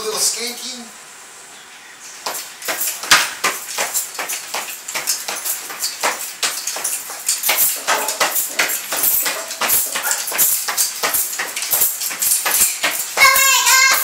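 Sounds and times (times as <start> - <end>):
shoe squeaks: 2.1 - 14.0
shoes stamping on tile floor: 2.2 - 14.0.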